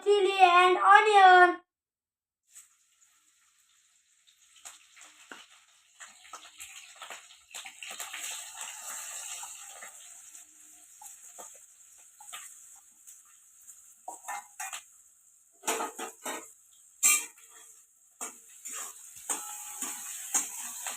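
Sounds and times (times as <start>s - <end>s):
onion sizzling in hot oil: 2.4s - 20.9s.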